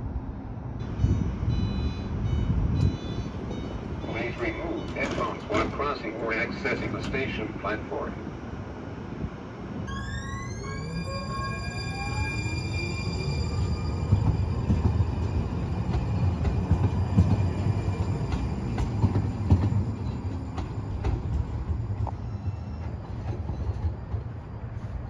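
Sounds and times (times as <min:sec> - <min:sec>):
streetcar wheels rumbling on track: 0:00.0 - 0:25.0.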